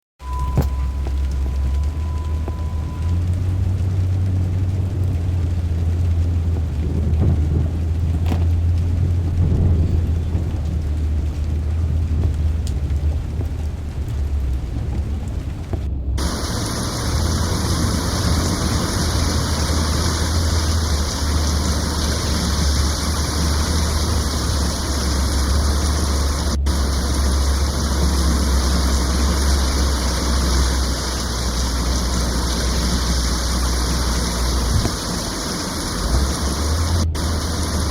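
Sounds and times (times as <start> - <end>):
deep steady rumble: 0.2 - 37.9
heavy rain: 0.2 - 37.9.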